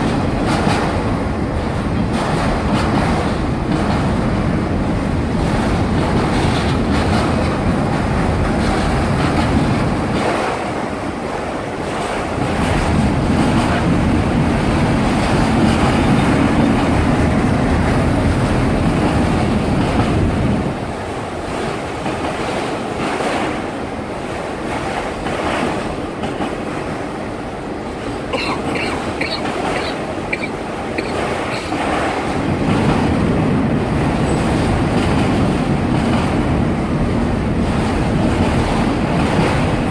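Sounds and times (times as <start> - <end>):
clatter at rail joints: 0.0 - 39.9
train wheels rumbling on rail: 0.0 - 39.9.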